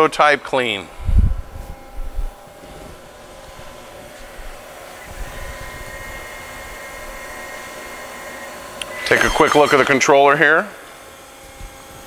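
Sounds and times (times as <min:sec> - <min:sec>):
lathe mechanical hum: 0:00.0 - 0:12.0
steady machine tones: 0:00.0 - 0:12.0.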